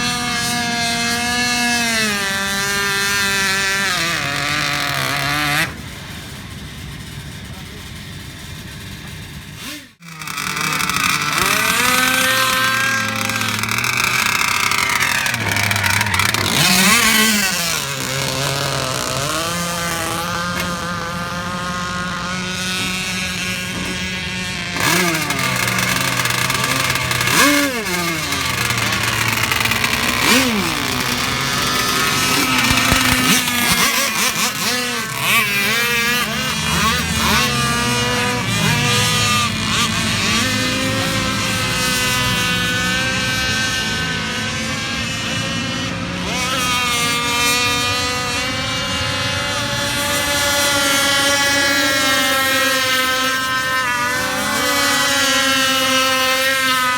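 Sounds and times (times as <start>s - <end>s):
model boat motor revving: 0.0s - 6.1s, 6.8s - 56.9s.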